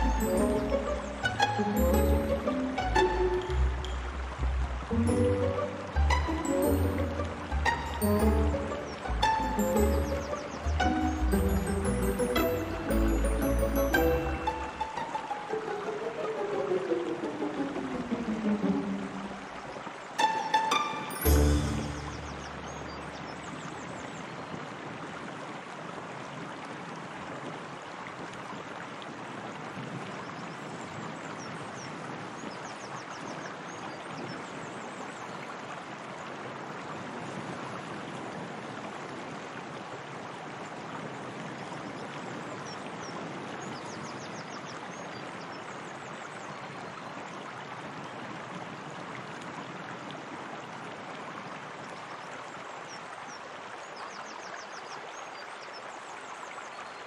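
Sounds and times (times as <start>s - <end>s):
water flowing and splashing: 0.0s - 57.0s.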